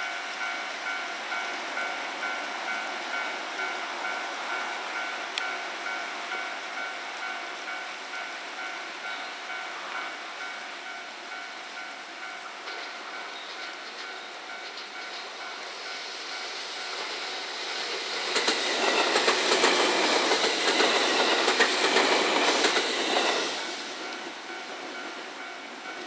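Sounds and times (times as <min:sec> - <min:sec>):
electric train approaching: 0:00.0 - 0:26.0.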